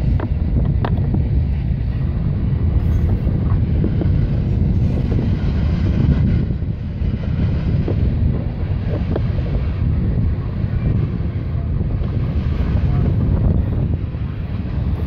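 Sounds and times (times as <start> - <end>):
diesel locomotives passing: 0.0 - 15.0
wind on microphone: 0.0 - 15.0.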